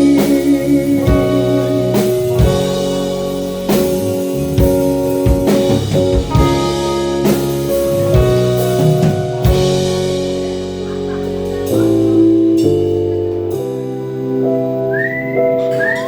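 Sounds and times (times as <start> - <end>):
drum kit: 0.0 - 16.0
keyboard and bass chords: 0.0 - 16.0
live band playing: 0.0 - 16.0.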